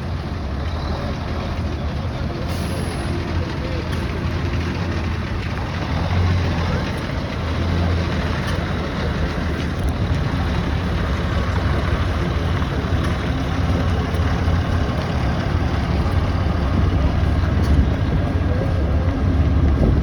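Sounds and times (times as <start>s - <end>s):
heavy engine droning: 0.0s - 20.0s.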